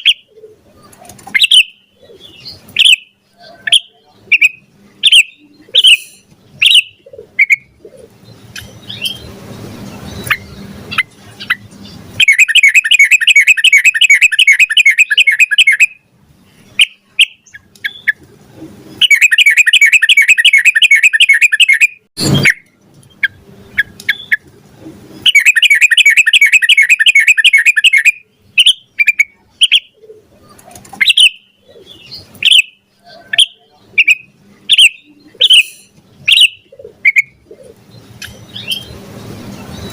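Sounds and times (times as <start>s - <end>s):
bird chirping and trilling: 0.0s - 24.5s, 25.1s - 39.9s.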